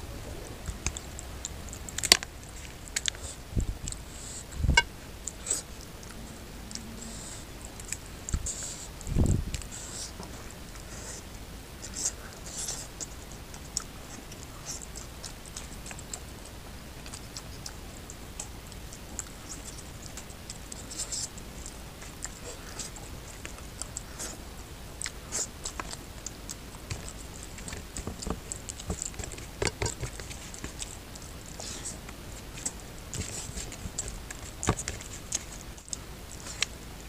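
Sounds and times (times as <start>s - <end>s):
fingers squishing rice on plate: 0.5s - 36.8s.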